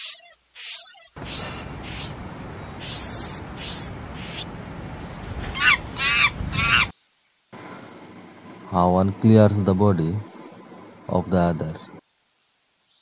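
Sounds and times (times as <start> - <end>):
birds chirping: 0.0 - 7.0, 7.6 - 12.0
outdoor hiss: 0.0 - 13.0.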